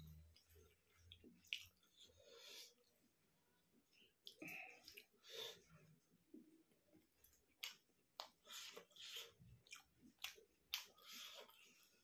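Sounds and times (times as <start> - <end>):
person chewing: 0.0 - 2.9, 3.9 - 5.7, 7.0 - 12.0.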